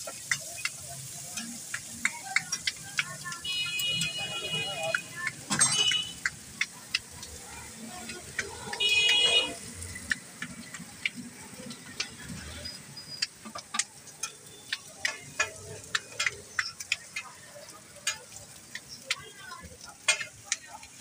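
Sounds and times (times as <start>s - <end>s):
food sizzling on a griddle: 0.0s - 21.0s.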